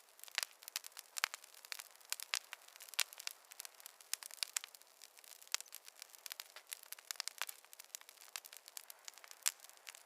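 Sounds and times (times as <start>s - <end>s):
fire crackling and popping: 0.0s - 10.0s
soft fire hiss: 0.0s - 10.0s.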